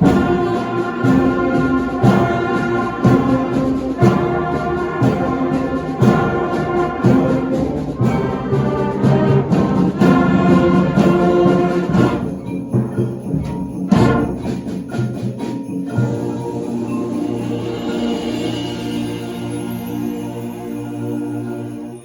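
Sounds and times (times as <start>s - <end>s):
percussion strokes: 0.0s - 22.0s.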